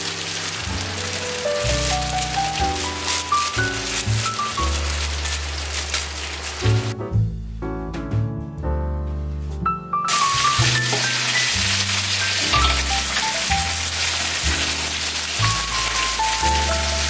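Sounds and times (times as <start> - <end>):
water pouring into plastic bag: 0.0 - 7.0, 10.1 - 17.0
background music: 0.6 - 5.5, 6.6 - 17.0.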